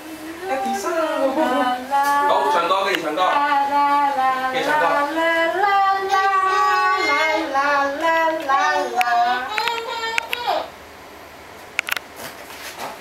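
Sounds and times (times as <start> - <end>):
high voice singing: 0.0 - 10.7.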